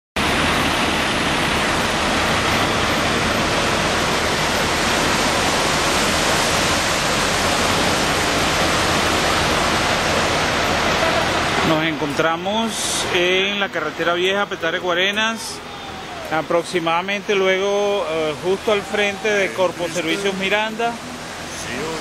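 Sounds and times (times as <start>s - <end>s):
stream water rushing: 0.2s - 22.0s.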